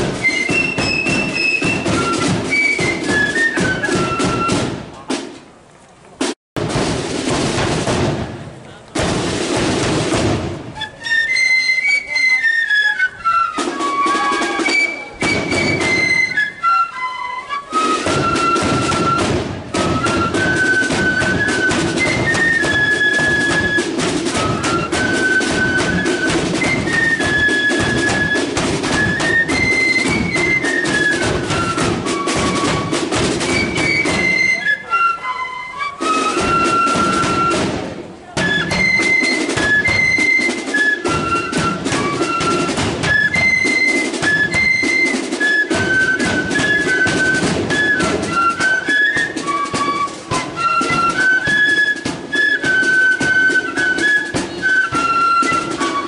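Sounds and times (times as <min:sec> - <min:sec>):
flutes playing in unison: 0:00.0 - 0:05.1, 0:10.0 - 0:56.0
snare and bass drums: 0:00.0 - 0:11.8, 0:13.2 - 0:16.8, 0:17.5 - 0:35.0, 0:35.8 - 0:56.0.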